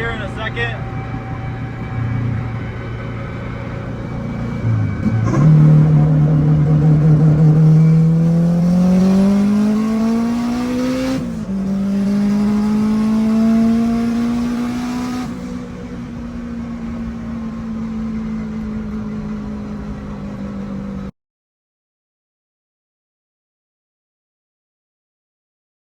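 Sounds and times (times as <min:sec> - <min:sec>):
car engine accelerating hard: 0:00.0 - 0:21.1.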